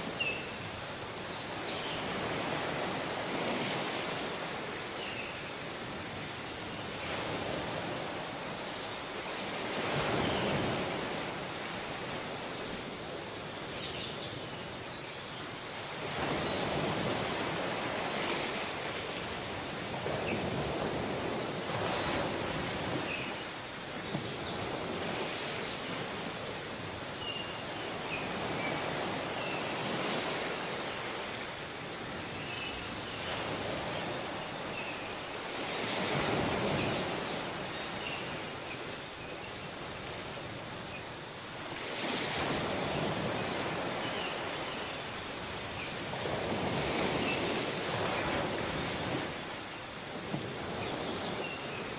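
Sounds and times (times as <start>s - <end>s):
ocean waves washing in: 1.5s - 13.6s, 15.2s - 51.9s.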